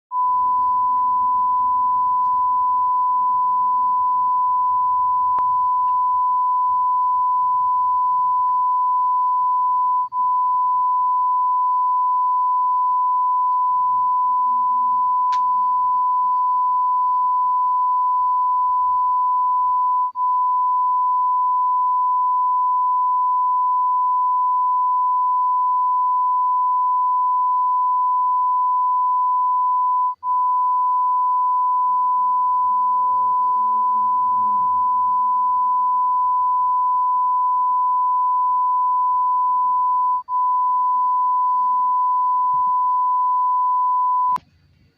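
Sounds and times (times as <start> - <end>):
high-pitched test tone beep: 0.1 - 44.4.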